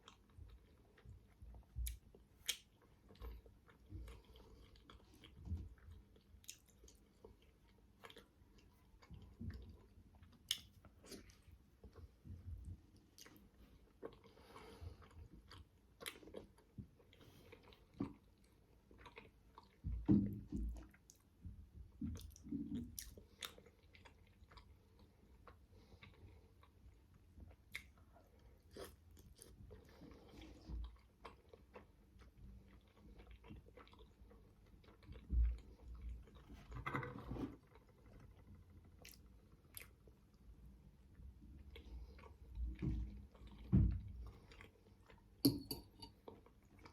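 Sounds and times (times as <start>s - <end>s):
chewing dumplings: 0.0s - 46.9s.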